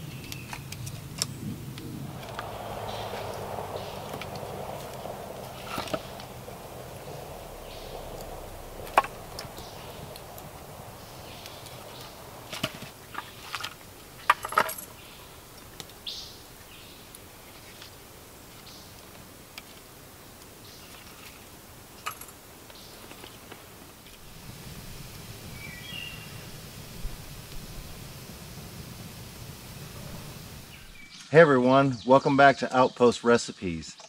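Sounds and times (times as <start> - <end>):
campfire flames rushing: 0.0 - 31.1.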